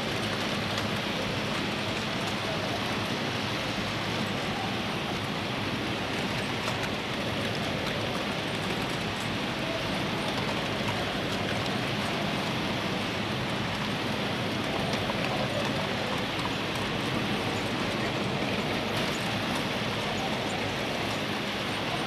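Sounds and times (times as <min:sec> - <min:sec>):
reeling machines running: 0:00.0 - 0:22.0.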